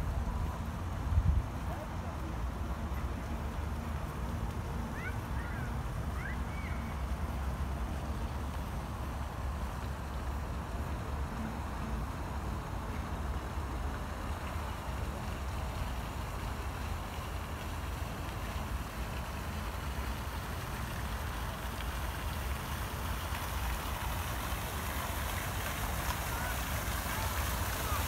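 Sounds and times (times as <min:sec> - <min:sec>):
fountain water splashing: 0:00.0 - 0:28.0.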